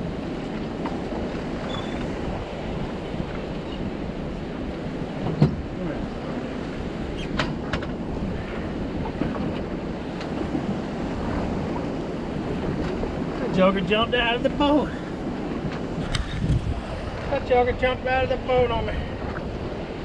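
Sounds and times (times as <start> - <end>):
water lapping against boat hull: 0.0 - 20.0
wind buffeting microphone: 0.0 - 20.0.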